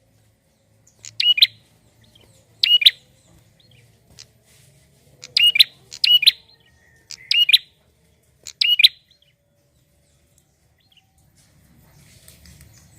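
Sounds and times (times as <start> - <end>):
bird chirping song: 0.0 - 12.9.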